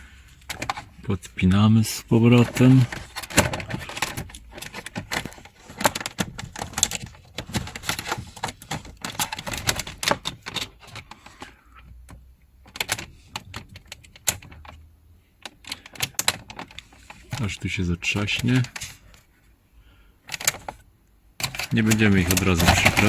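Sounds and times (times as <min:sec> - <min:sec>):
plastic clicks and knocks: 0:00.4 - 0:01.0, 0:02.2 - 0:14.8, 0:15.4 - 0:19.2, 0:20.3 - 0:23.0.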